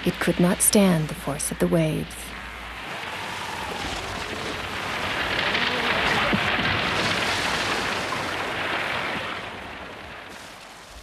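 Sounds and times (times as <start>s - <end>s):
sea waves breaking: 0.0s - 11.0s.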